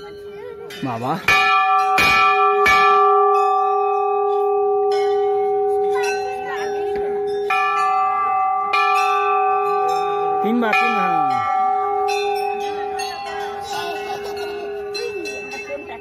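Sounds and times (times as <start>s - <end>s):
large bell ringing: 0.0s - 16.0s.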